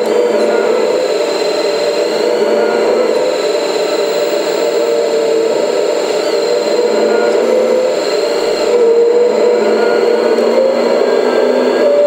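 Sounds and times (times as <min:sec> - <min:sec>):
hydraulic pump whining: 0:00.0 - 0:12.0.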